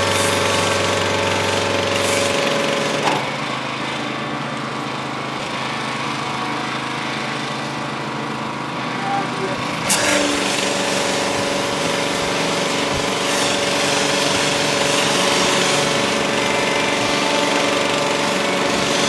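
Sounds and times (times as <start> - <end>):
motorized machine running: 0.0 - 19.0.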